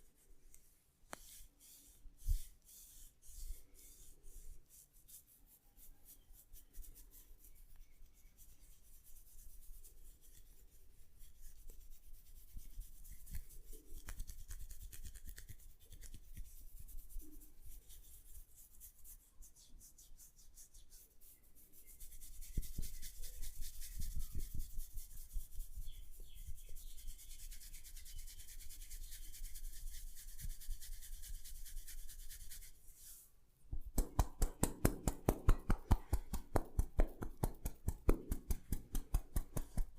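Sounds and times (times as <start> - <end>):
hands rubbing through hair: 0.0 - 39.9
rhythmic strokes on hair: 0.0 - 39.9.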